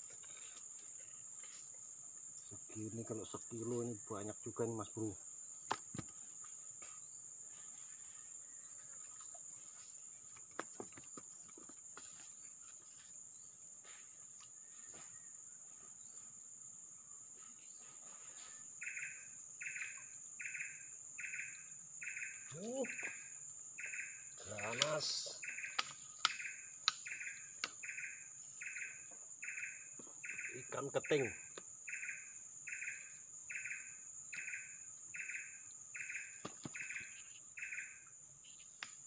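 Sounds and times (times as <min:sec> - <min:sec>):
insects droning: 0:00.0 - 0:39.0
low pulsing insect call: 0:00.0 - 0:39.0.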